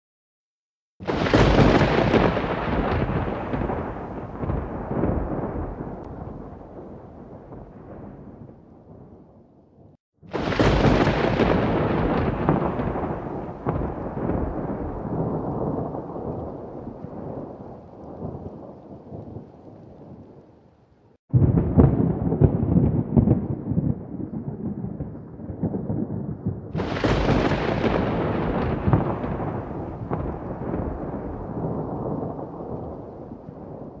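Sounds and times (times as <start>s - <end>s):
thunder rumbling: 1.0s - 20.6s, 21.3s - 34.0s.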